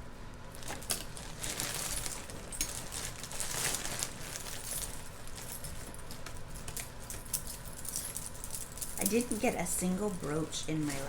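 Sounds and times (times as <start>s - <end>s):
jewelry clinking and jangling: 0.7s - 11.0s.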